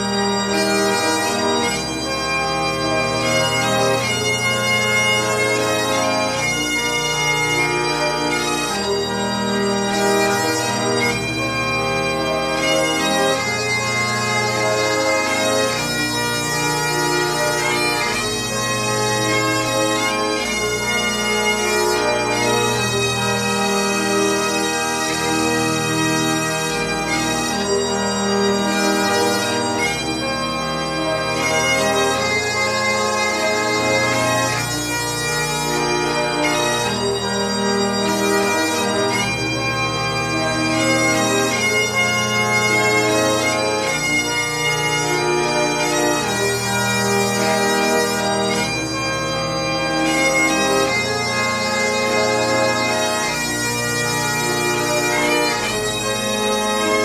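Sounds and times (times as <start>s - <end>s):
bagpipe music: 0.0s - 57.0s.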